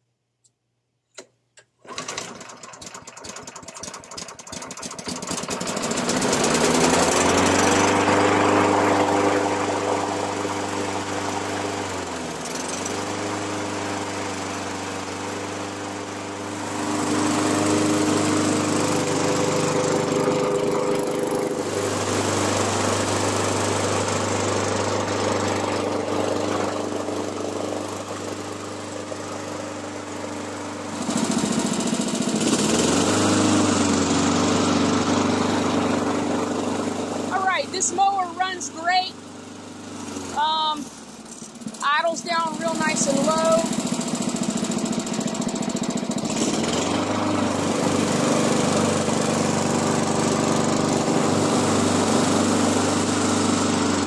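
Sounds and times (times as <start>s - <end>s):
lawn mower engine running: 1.8s - 54.0s.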